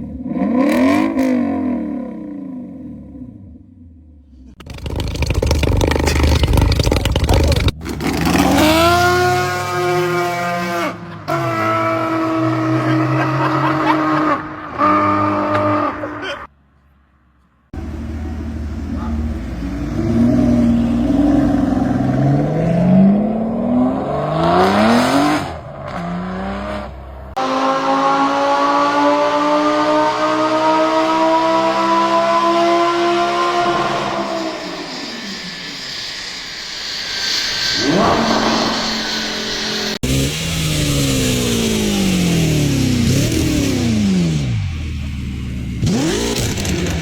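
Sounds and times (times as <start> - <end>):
car engines revving: 0.0 - 3.6, 5.6 - 16.5, 17.8 - 47.0.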